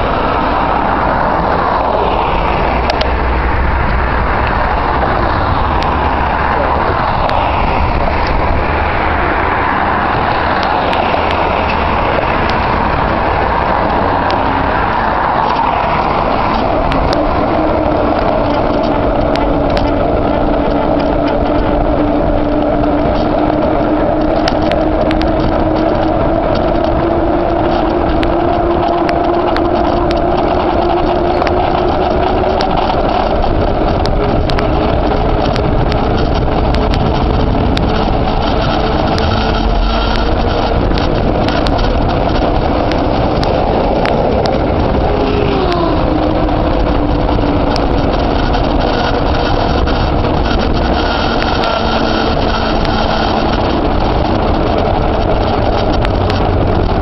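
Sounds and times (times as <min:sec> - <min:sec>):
rising humming tone: 0:00.0 - 0:57.0
tyre and wind rush: 0:00.0 - 0:57.0.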